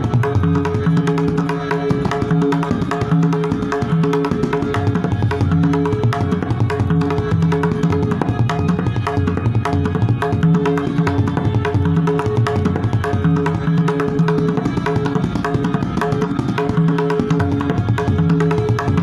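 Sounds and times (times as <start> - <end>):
tabla playing fast strokes: 0.0 - 19.0.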